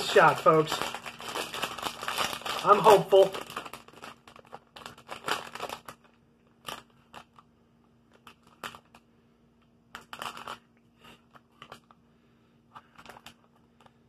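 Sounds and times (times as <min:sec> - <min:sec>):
plastic bag crinkling: 0:00.0 - 0:09.1, 0:09.9 - 0:12.0, 0:12.7 - 0:14.0
faint steady hum: 0:00.0 - 0:14.0.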